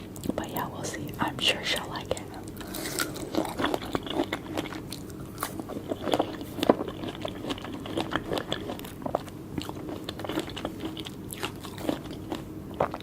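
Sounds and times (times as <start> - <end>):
chewing soft fruit: 1.8 - 13.0.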